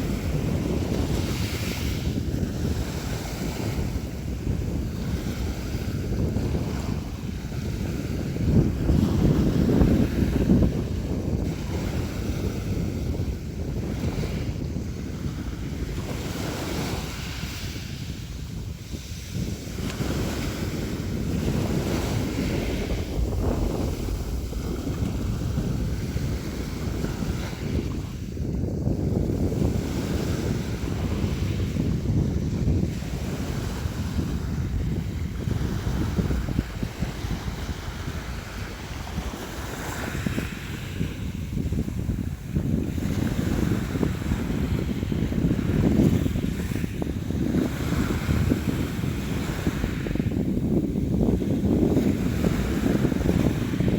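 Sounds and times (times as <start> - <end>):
sea waves breaking: 0.0 - 53.9.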